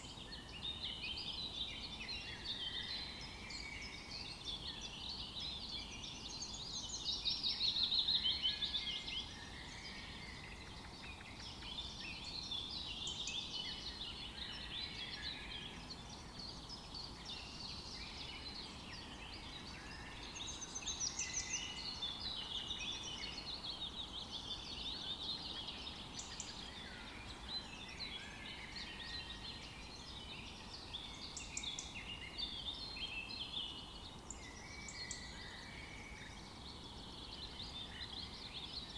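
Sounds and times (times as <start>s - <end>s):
faint background hiss: 0.0s - 38.9s
songbirds singing and calling: 0.0s - 38.9s.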